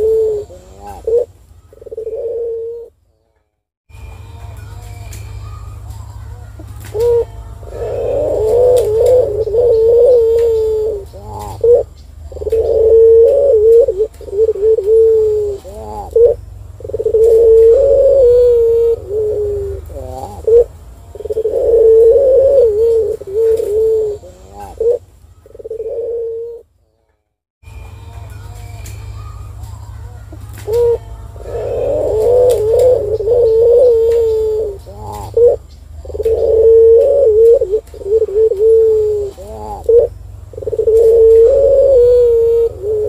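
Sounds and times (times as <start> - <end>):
dove cooing: 0.0 - 3.0, 6.6 - 26.7, 30.3 - 43.0.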